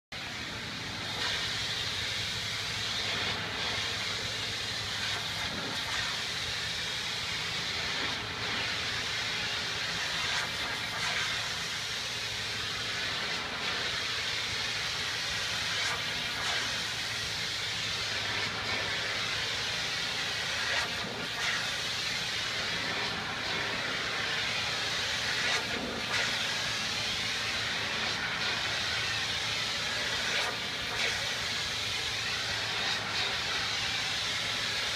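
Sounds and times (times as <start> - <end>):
pressure washer drone: 0.2 - 34.9
pressure washer water jet hissing: 0.2 - 34.9.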